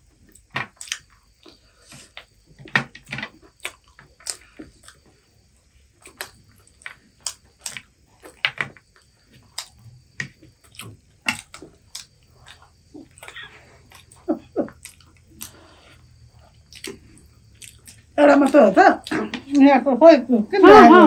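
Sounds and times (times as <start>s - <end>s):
people chewing crispy chicken: 0.1s - 2.4s, 3.3s - 18.2s.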